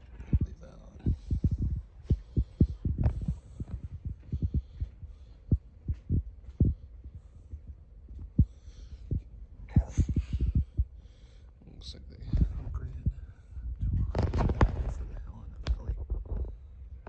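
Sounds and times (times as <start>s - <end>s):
low thuds: 0.0s - 11.1s, 12.2s - 17.0s
faint low hum: 0.0s - 17.0s.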